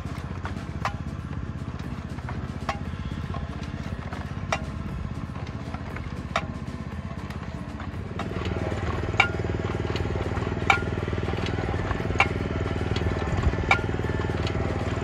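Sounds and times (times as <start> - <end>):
sharp metallic clack: 0.0 - 15.0
small engine running: 0.0 - 15.0.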